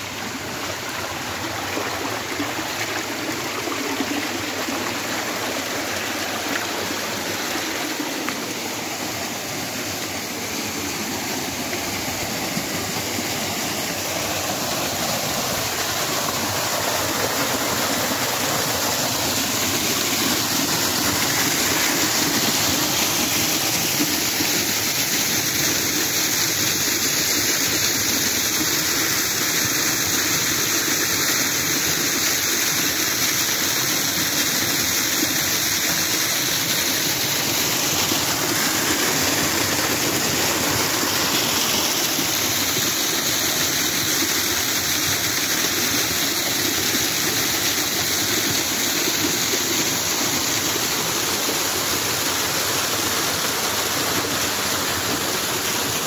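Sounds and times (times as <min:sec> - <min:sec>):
waterfall splashing on rocks: 0:00.0 - 0:56.0.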